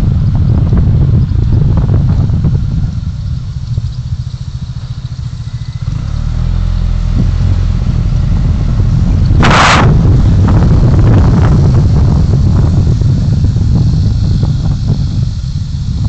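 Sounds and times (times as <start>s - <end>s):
car driving on road: 0.0s - 16.0s.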